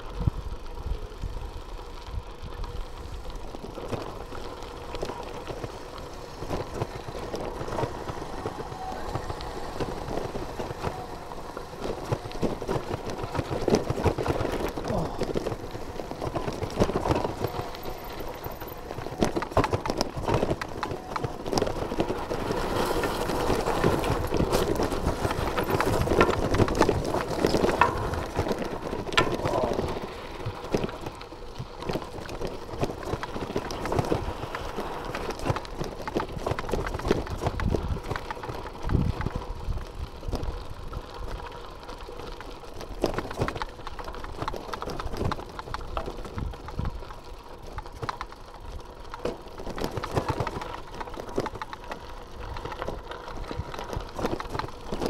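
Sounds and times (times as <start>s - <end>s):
bicycle rattling: 0.0s - 55.0s
tyres crunching on gravel: 0.1s - 55.0s.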